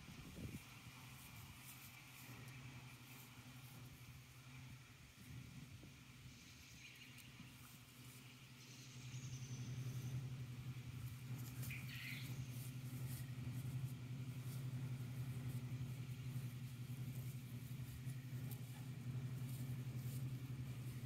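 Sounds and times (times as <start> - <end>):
steady low hum: 0.0 - 21.0
faint ticks and rustles: 0.3 - 21.0.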